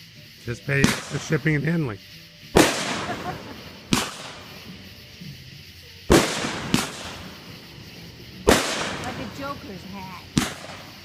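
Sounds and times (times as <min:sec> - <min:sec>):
firework bangs: 0:00.0 - 0:11.0.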